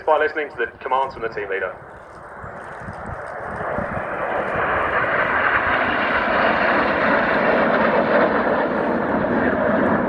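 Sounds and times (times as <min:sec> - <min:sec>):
jets flying overhead: 0:00.0 - 0:10.0.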